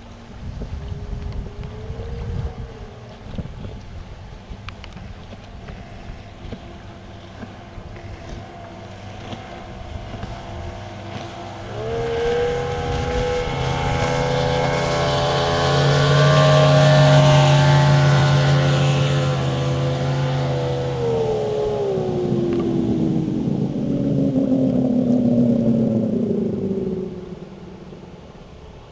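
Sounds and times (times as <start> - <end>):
motorboat engine passing: 0.0 - 28.9.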